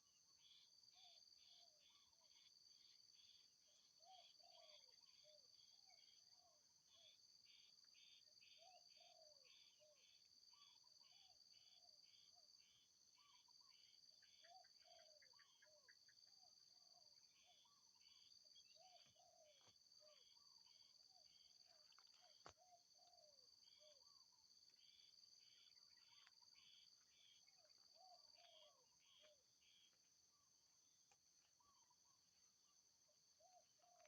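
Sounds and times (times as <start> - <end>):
insect chirps: 0.0 - 34.0
insect chorus ringing drone: 0.0 - 34.0.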